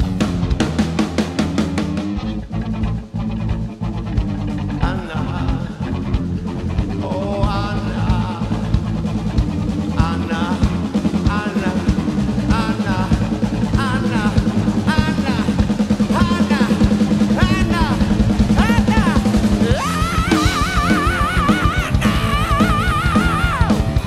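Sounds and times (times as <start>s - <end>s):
bass line: 0.0s - 24.0s
drum kit beat: 0.0s - 24.0s
electric guitar: 0.0s - 24.0s.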